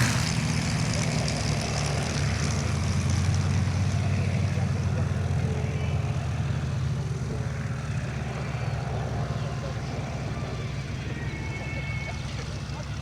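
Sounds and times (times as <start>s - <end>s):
propeller aircraft drone: 0.0s - 13.0s.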